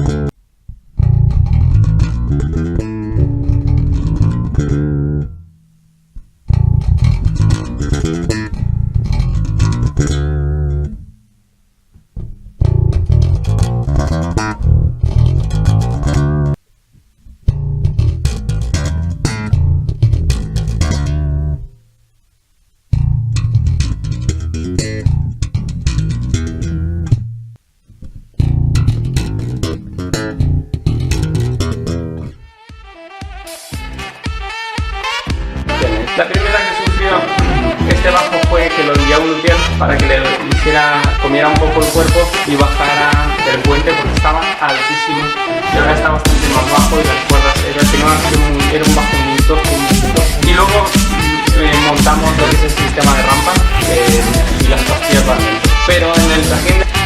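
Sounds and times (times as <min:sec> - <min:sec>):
electric bass guitar plucked: 0:00.0 - 0:11.3, 0:11.9 - 0:16.6, 0:17.2 - 0:22.0, 0:22.9 - 0:32.6, 0:33.7 - 0:57.0.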